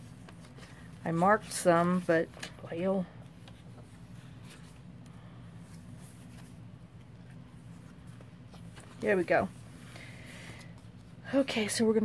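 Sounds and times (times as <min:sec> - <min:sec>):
paper pages rustling: 0:00.0 - 0:11.2
low room hum: 0:00.0 - 0:12.0.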